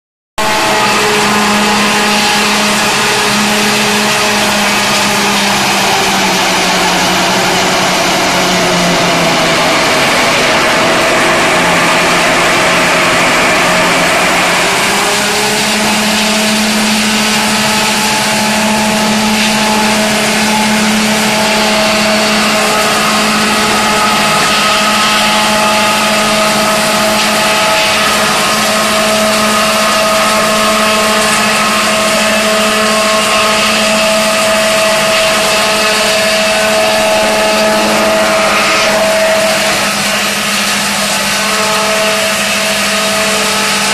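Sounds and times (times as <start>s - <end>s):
machine hum: 0.4s - 43.9s
wood grinding into sawdust: 0.4s - 43.9s.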